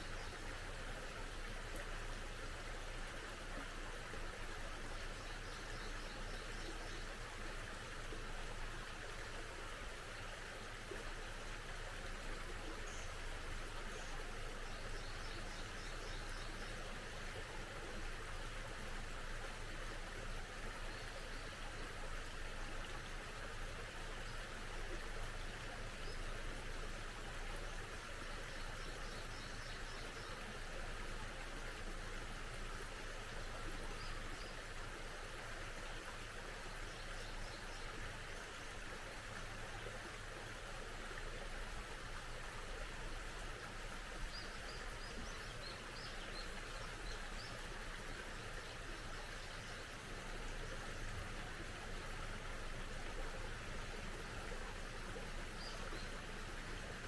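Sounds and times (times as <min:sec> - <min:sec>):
small stream flowing: 0:00.0 - 0:57.0.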